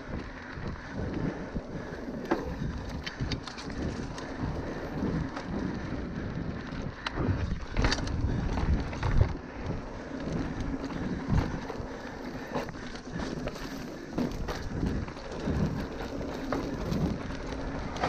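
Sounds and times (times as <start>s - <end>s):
bike tyre noise: 0.0s - 18.0s
wind buffeting microphone: 0.0s - 18.0s
bike clattering: 0.1s - 18.0s.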